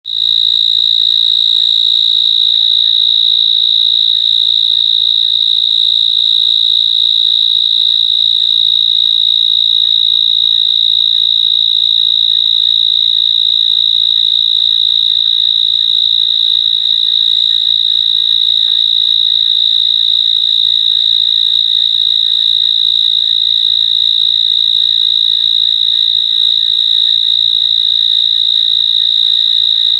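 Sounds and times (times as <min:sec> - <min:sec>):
cricket trilling: 0:00.0 - 0:29.9.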